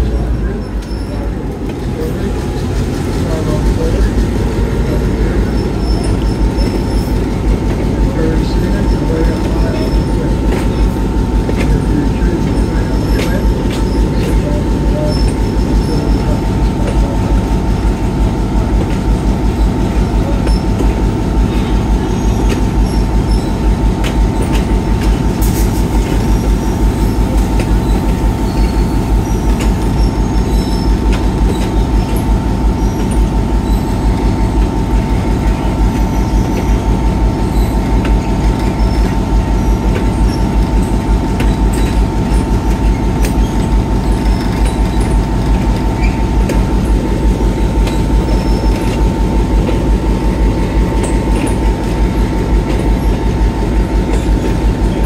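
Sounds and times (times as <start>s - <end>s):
locomotive engine throb: 0.0s - 55.0s
wheels clicking over rails: 0.0s - 55.0s.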